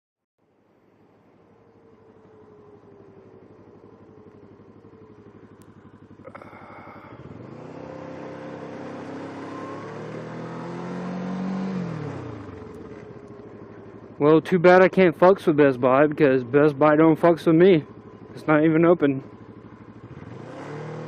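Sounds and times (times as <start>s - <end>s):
motorcycle engine accelerating: 1.3s - 21.0s.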